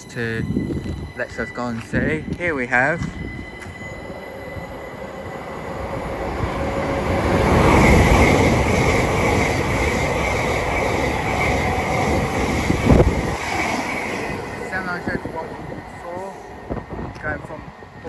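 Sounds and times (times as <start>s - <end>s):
steady high whine: 0.0s - 17.6s
train passing rumble: 0.0s - 18.0s.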